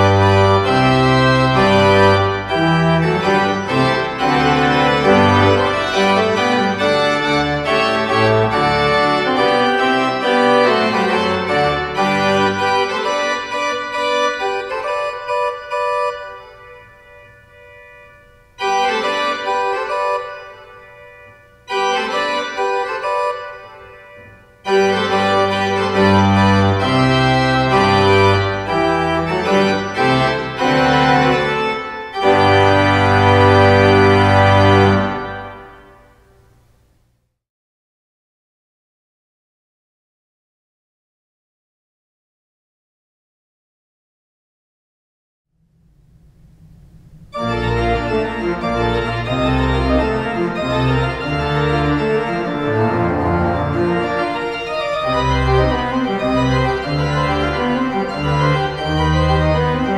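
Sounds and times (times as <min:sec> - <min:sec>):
deep organ pedal bass: 0:00.0 - 0:36.0, 0:45.8 - 0:59.9
pipe organ chords: 0:00.0 - 0:36.8, 0:45.7 - 0:59.9.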